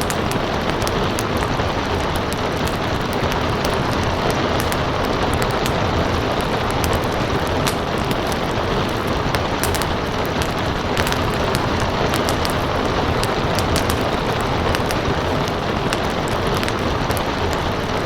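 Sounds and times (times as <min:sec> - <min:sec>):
steady rain: 0:00.0 - 0:18.0
wood fire crackling: 0:00.0 - 0:18.0.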